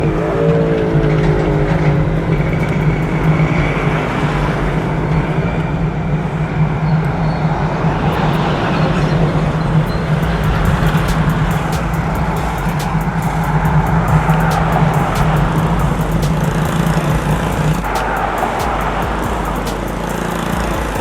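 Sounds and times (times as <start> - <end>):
road traffic engine drone: 0.0 - 21.0.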